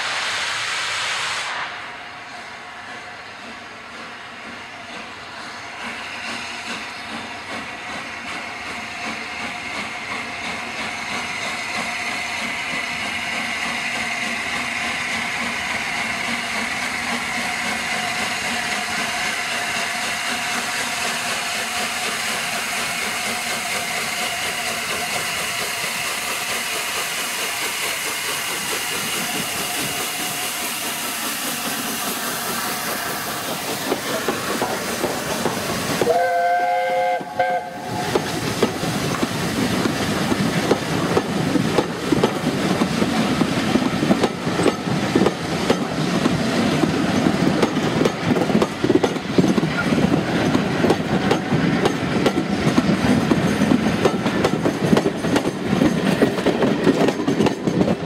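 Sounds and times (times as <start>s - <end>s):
steam locomotive hissing steam: 0.0s - 58.0s.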